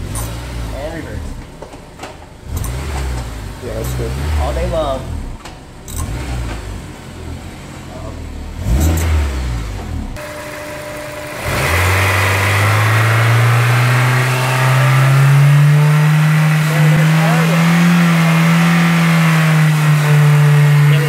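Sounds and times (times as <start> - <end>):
engine vibration buzz: 0.0 - 7.6, 8.3 - 21.0
car engine revving: 0.0 - 21.0.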